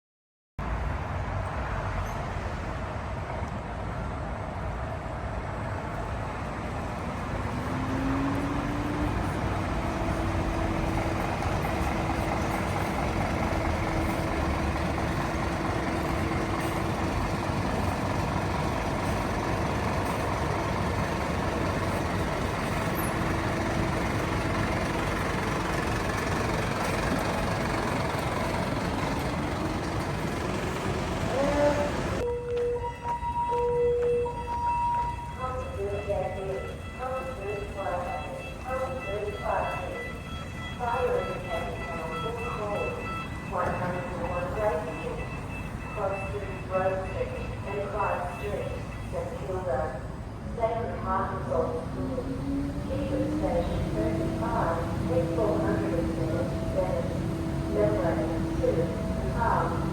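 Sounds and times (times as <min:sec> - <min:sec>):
road and traffic rumble: 0:00.6 - 0:59.9
fire truck engine running: 0:05.7 - 0:32.2, 0:36.1 - 0:59.9.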